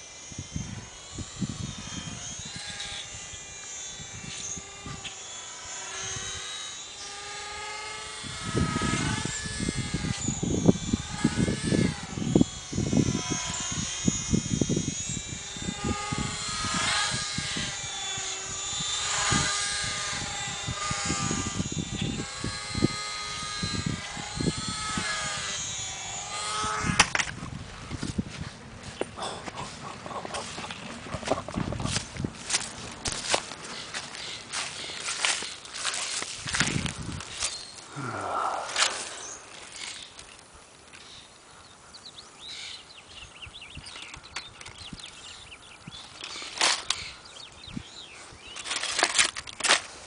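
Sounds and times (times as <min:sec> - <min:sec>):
model plane motor whining: 0:00.0 - 0:50.0
wind buffeting microphone: 0:00.3 - 0:05.1, 0:08.0 - 0:40.0, 0:43.1 - 0:48.7.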